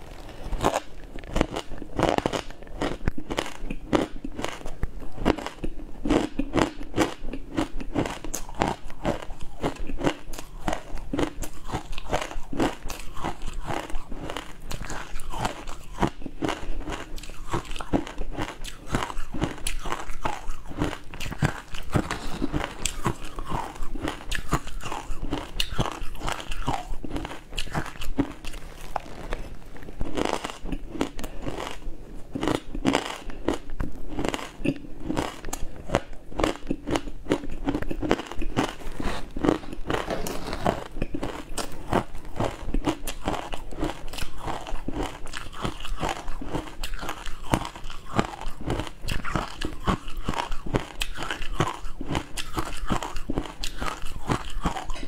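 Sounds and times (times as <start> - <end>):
chewing crunchy ice: 0.0 - 55.0.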